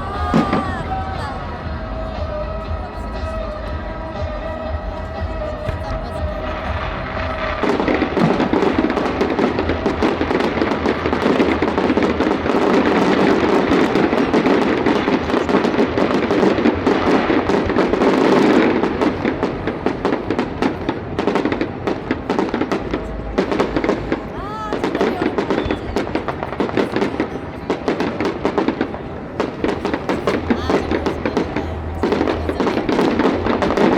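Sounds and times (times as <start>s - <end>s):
music: 0.0s - 26.2s, 29.4s - 33.9s
fireworks crackling bursts: 0.0s - 33.9s.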